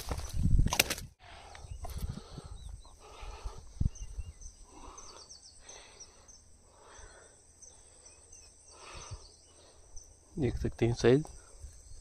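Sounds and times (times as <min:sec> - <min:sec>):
high insect trill: 0:01.3 - 0:12.0
bird chirps: 0:01.5 - 0:12.0.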